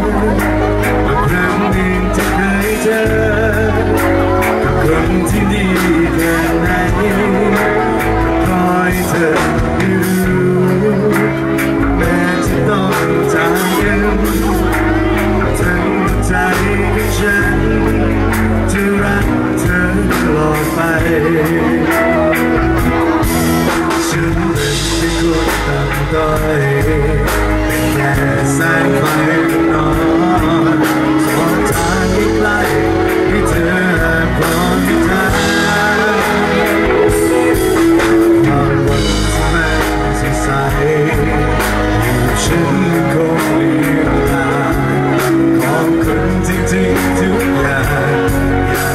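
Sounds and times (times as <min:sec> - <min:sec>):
live band with drum kit: 0:00.0 - 0:48.9
man singing pop song: 0:00.0 - 0:48.9.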